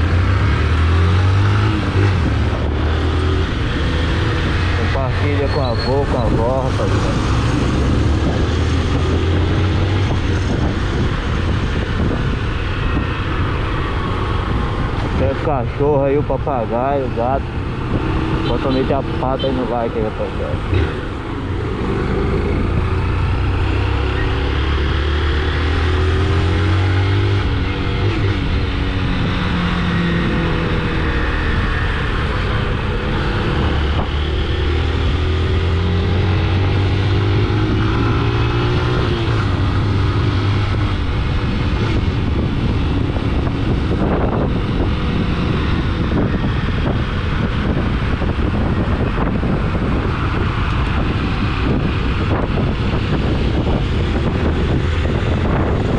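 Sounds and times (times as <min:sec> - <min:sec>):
wind on microphone: 0:00.0 - 0:55.9.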